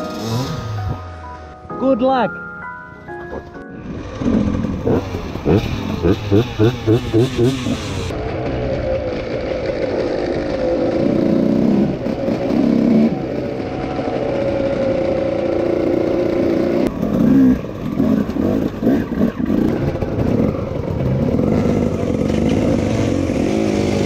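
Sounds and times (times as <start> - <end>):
dirt bike engine revving: 0.0 - 1.1, 3.8 - 24.0.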